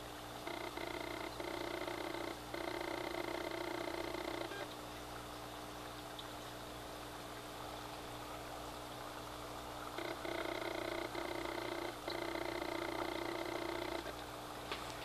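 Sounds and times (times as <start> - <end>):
air pump buzzing hum: 0.0 - 15.0
faint water trickle: 0.0 - 15.0.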